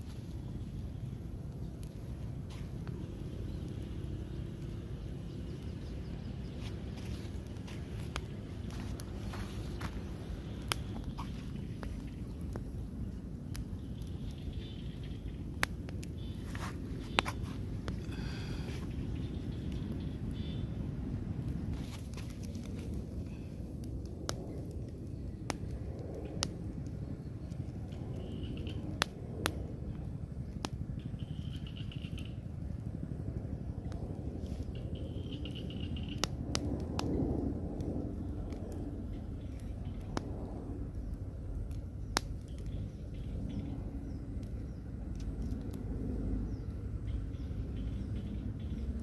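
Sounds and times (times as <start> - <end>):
fire crackling: 0.0 - 49.0
steady low rumble: 0.0 - 49.0.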